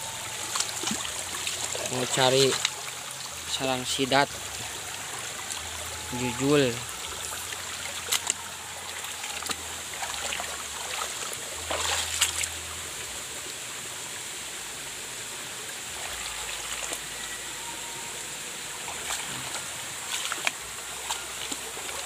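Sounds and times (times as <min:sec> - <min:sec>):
stream trickling over rocks: 0:00.0 - 0:22.0
water splashes: 0:00.0 - 0:22.0.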